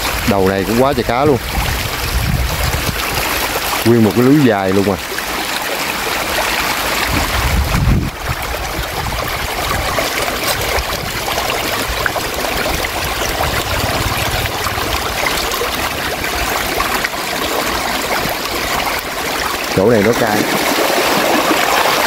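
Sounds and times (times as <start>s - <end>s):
catfish splashing in shallow water: 0.0s - 22.0s.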